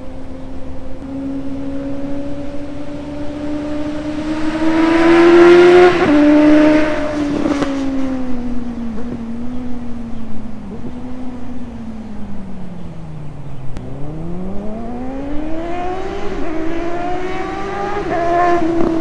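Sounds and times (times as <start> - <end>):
motorcycle engine accelerating past: 0.1 - 19.0.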